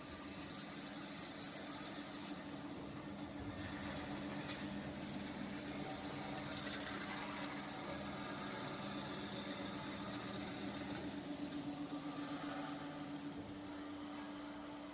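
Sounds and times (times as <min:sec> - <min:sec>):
industrial machine motor hum: 0:02.5 - 0:14.9.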